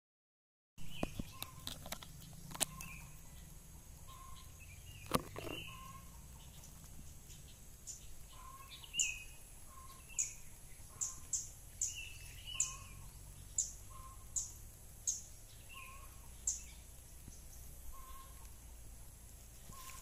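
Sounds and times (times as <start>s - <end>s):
birds chirping: 0.8s - 20.0s.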